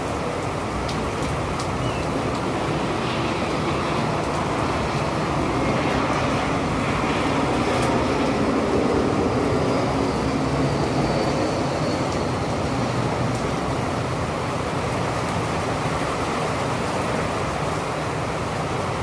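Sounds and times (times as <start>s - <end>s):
low traffic rumble: 0.0s - 19.0s
rainstorm rushing: 0.0s - 19.0s.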